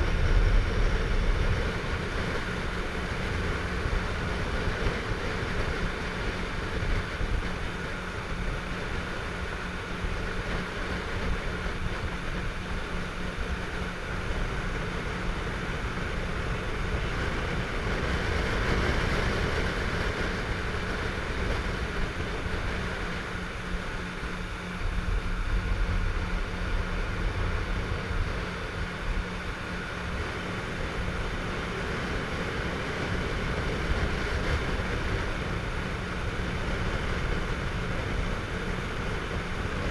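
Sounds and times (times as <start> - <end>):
motorboat engine running: 0.0 - 39.9
rush of wind and water: 0.0 - 39.9.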